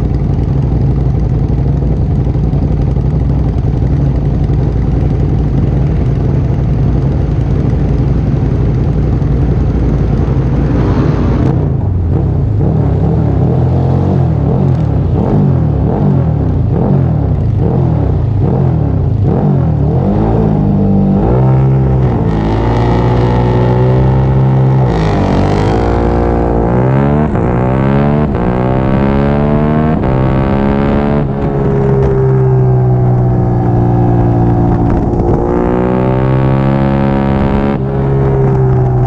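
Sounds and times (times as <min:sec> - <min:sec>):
motorcycle accelerating through gears: 0:00.0 - 0:39.0
motorcycle engine revving: 0:00.0 - 0:39.0.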